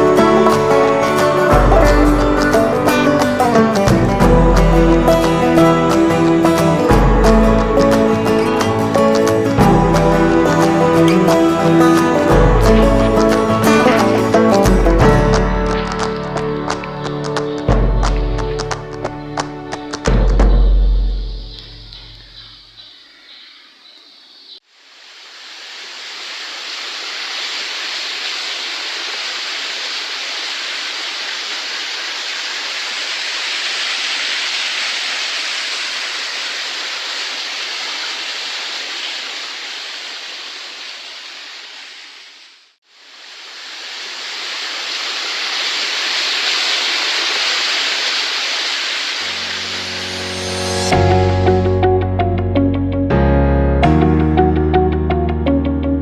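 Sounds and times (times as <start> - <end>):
waterfall rushing: 0.0 - 20.1, 24.9 - 51.6.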